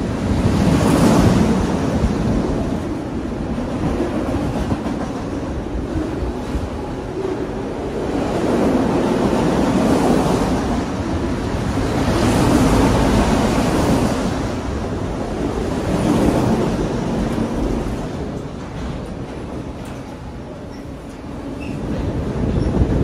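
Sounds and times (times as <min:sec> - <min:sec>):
rattling freight cars: 0:00.0 - 0:23.0
train wheels on rail: 0:00.0 - 0:23.0.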